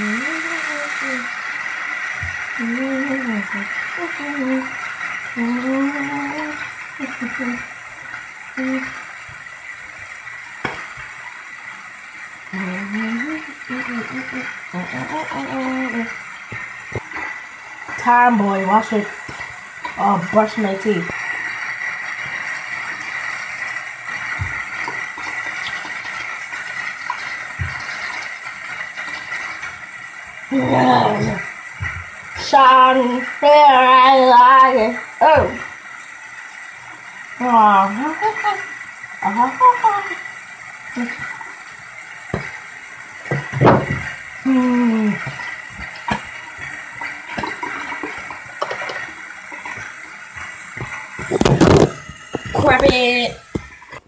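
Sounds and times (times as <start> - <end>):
tap water running into sink: 0.0 - 54.0.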